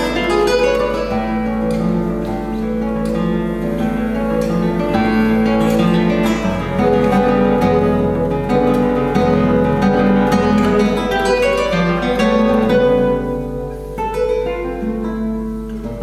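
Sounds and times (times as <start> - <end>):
fingerpicked classical guitar: 0.0 - 16.0.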